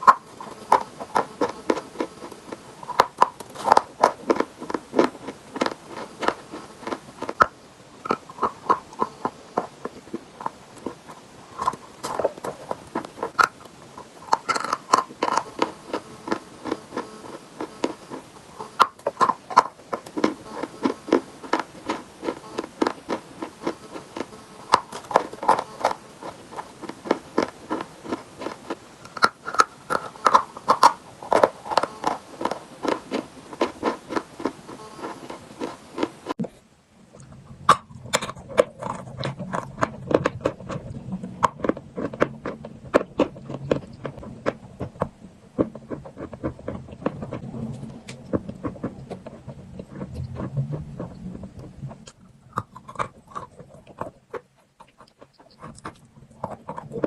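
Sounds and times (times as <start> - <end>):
chewing and crunching chalk: 0.0 - 36.4, 37.2 - 57.0.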